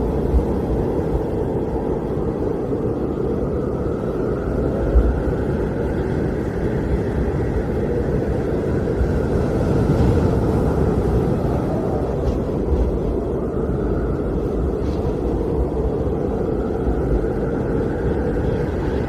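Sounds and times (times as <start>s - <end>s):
blizzard wind rushing: 0.0s - 19.0s.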